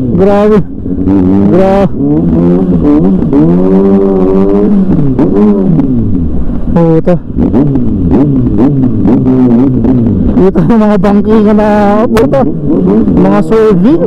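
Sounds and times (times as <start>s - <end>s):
motorcycle engine revving hard: 0.0s - 14.0s.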